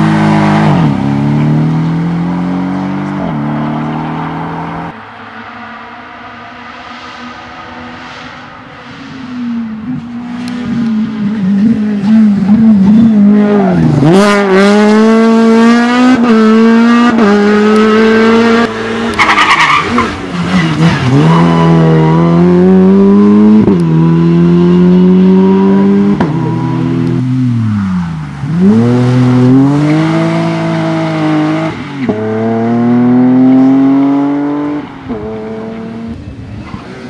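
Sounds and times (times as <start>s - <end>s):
rally car engine accelerating: 0.0s - 37.0s.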